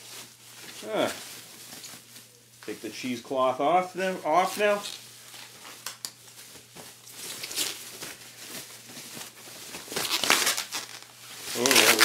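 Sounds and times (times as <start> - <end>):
cheesecloth rustling and crinkling: 0.0 - 12.0.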